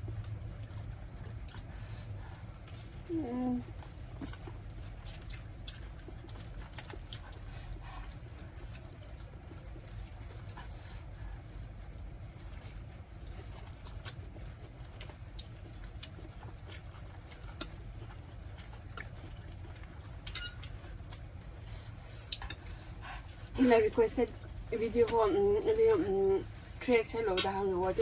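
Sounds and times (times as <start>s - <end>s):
wet chewing and slurping: 0.0s - 23.6s.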